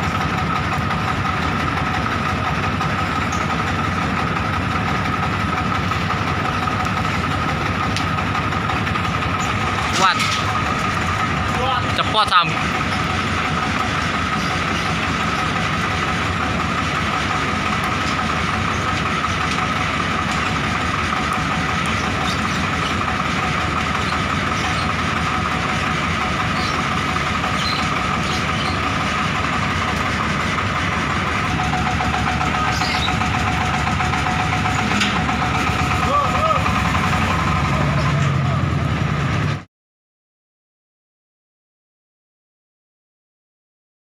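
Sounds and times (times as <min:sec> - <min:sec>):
high even whine: 0:00.0 - 0:39.5
diesel truck engine idling: 0:00.0 - 0:39.7.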